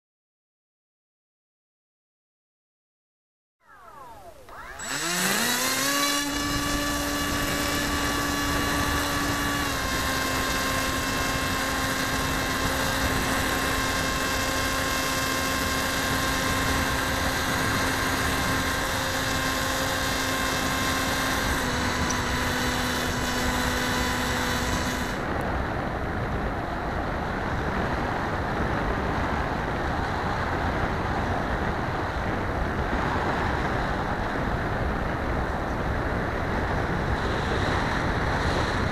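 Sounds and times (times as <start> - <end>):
electric motor and propeller whine: 3.6 - 38.9
wind rushing over microphone: 3.9 - 38.9.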